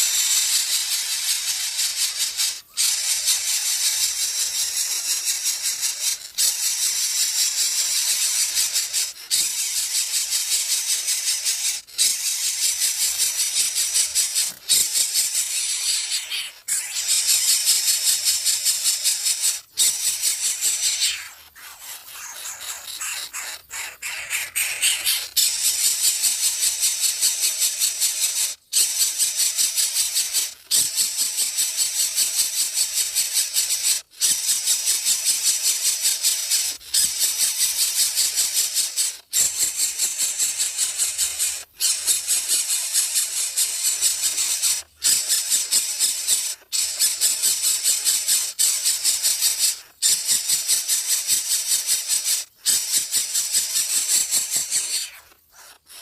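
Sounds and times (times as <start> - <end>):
nestling bird begging calls: 0.0 - 28.4, 31.4 - 56.0.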